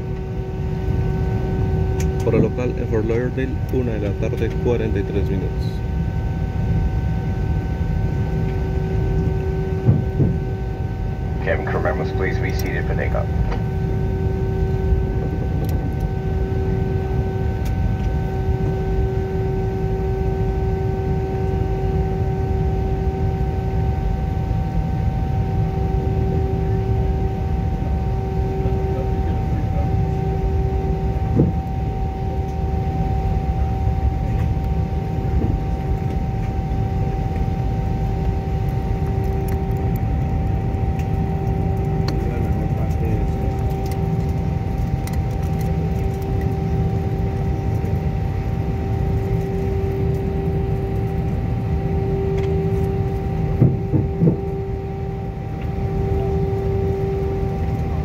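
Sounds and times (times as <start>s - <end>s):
jet engines idling rumble: 0.0s - 58.0s.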